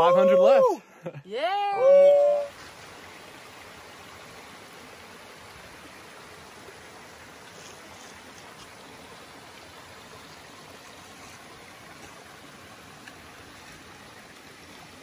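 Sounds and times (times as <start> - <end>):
brook babbling over stones: 1.5 - 15.0.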